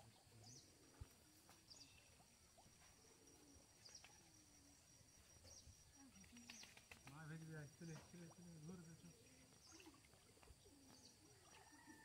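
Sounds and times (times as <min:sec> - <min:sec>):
high insect hum: 0:00.0 - 0:12.0.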